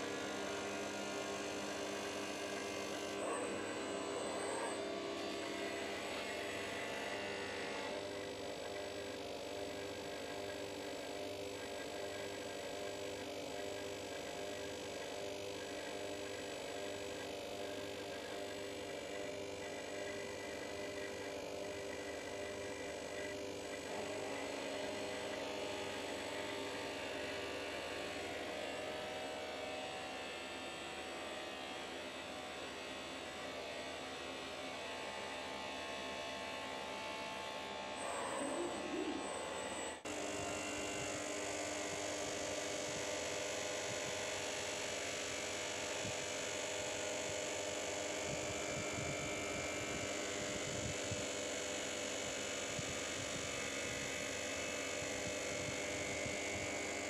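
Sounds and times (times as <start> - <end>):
bench grinder whining: 0.0 - 57.0.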